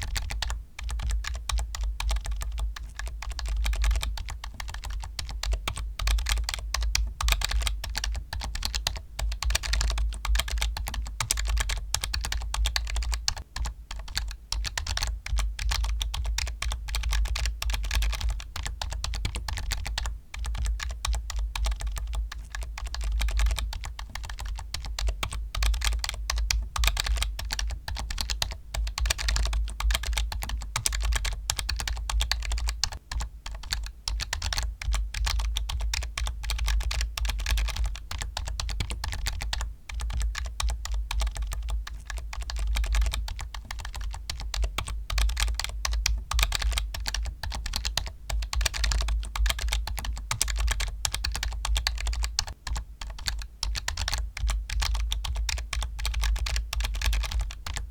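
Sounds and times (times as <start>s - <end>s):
fast typing on keyboard: 0.0s - 57.9s.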